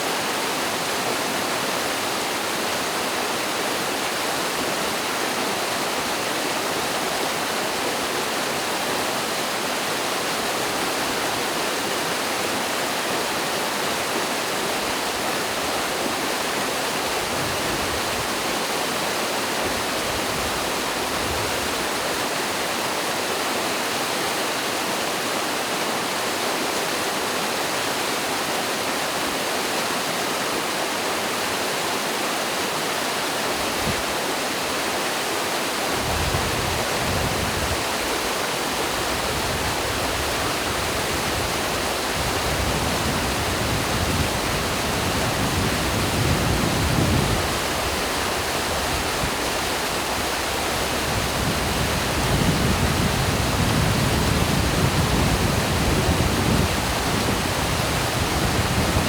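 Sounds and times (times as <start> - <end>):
stream and waterfall rushing: 0.0 - 59.0.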